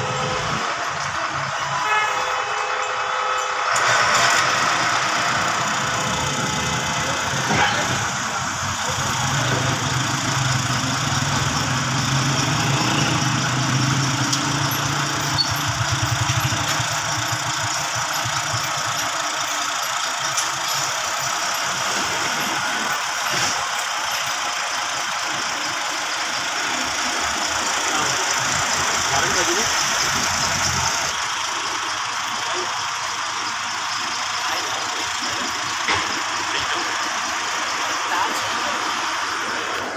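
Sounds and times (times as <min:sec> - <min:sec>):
vehicle engines in street traffic: 0:00.0 - 0:39.9.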